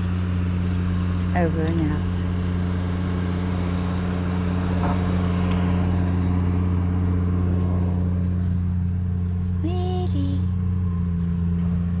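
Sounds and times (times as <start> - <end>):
car engine running steadily: 0.0 - 12.0.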